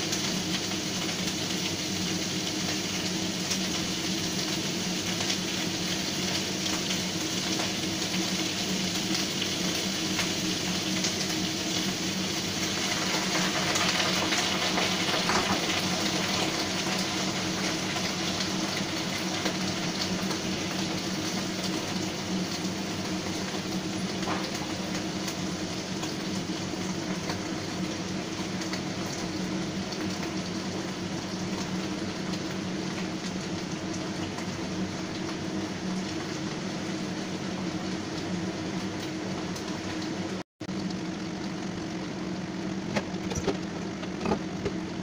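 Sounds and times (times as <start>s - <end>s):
vegetables sizzling in a wok: 0.0s - 45.0s.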